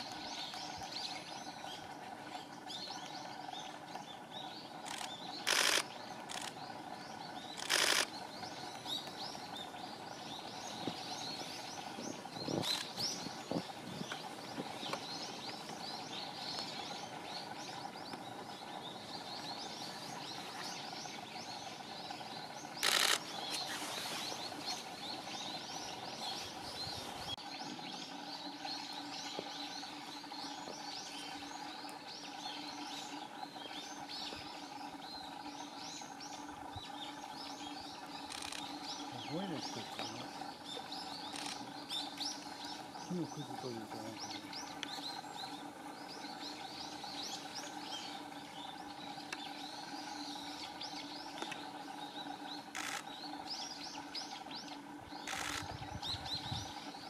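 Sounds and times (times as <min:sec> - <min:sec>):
faint steady hum: 0:00.0 - 0:57.0
small birds chirping: 0:00.0 - 0:57.0.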